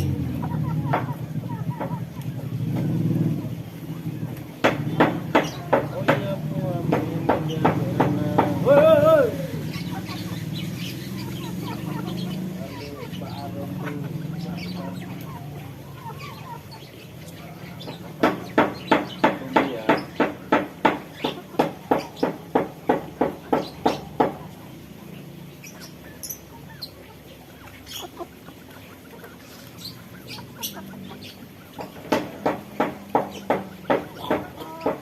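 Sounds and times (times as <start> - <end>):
birds calling in rapid runs: 0.0 - 35.0.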